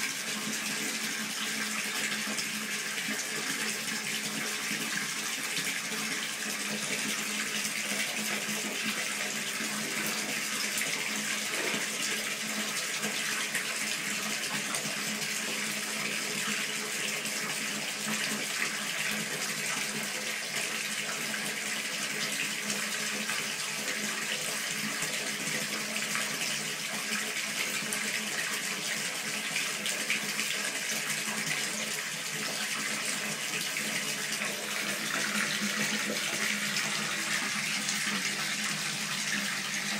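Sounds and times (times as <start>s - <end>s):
water running into bathtub: 0.0s - 39.9s.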